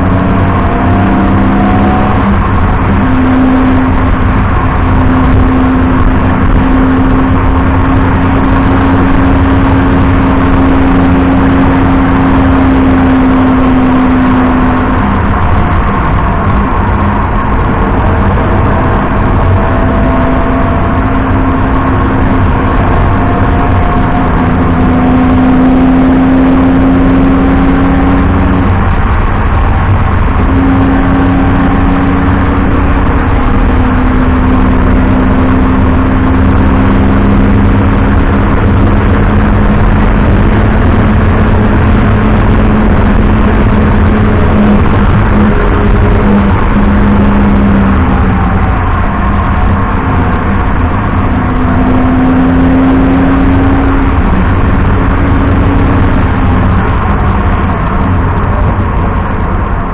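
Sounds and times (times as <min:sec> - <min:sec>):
car engine under load: 0:00.0 - 0:59.9
road and tyre rumble: 0:00.0 - 0:59.9.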